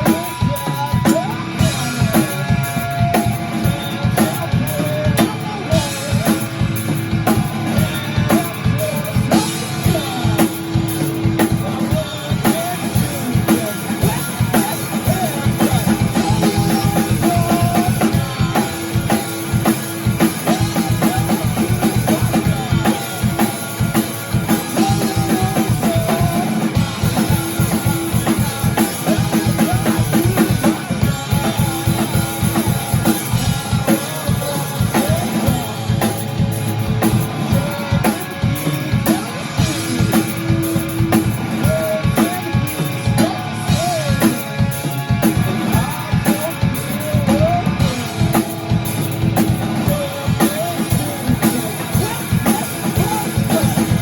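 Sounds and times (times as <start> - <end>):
rock music: 0.0 - 54.0.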